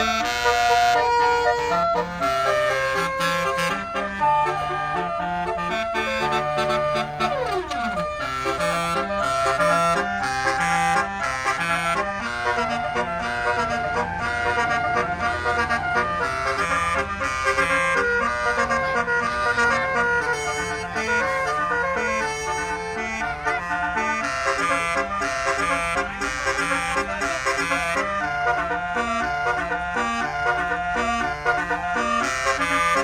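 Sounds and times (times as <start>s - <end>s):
bus horn playing a tune: 0.0s - 33.0s.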